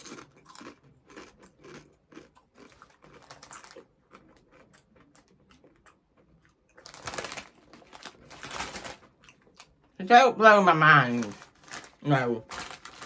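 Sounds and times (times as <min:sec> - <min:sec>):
chewing tortilla chips: 0:00.0 - 0:10.0, 0:11.0 - 0:13.0.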